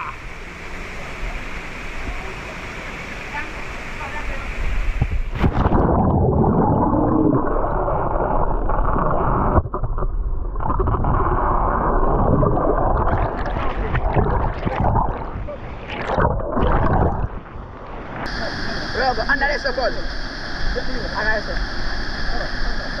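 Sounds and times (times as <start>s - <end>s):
muffled underwater water rushing: 0.0s - 23.0s.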